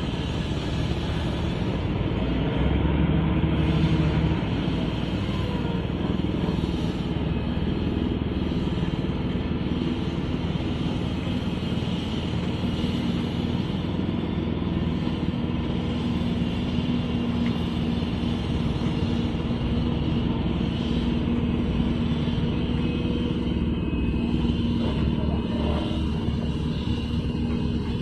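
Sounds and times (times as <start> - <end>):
machine engine humming steadily: 0.0 - 28.0.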